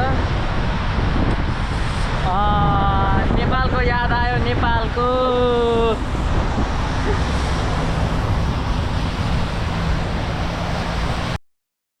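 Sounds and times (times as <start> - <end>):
wind blowing across microphone: 0.0 - 11.4.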